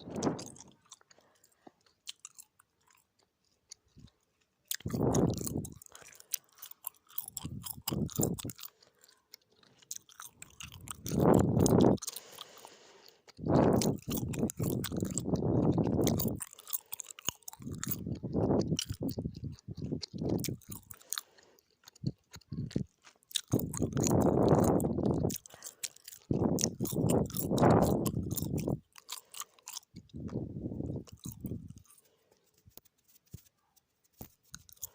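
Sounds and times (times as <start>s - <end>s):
gum chewing with clicks: 0.0s - 32.9s, 34.2s - 34.9s.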